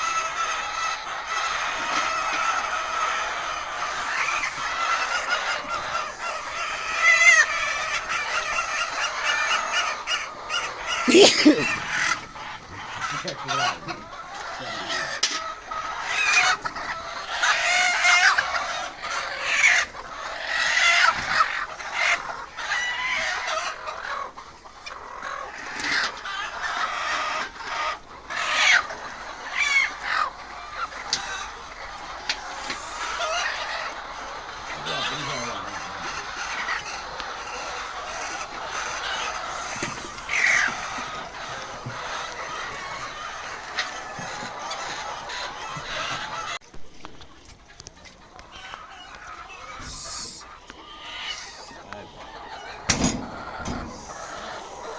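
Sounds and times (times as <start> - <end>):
chickens clucking and squawking: 0.0 - 54.9.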